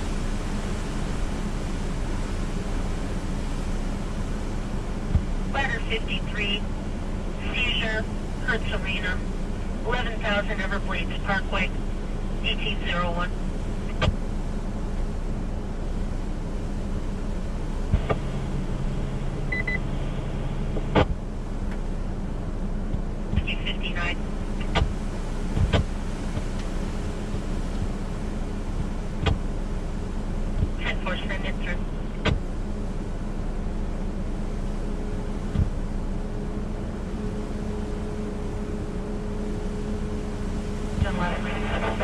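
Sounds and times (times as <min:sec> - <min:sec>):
low steady radio tone: 0:00.0 - 0:42.0
radio hiss and hum: 0:00.0 - 0:42.0.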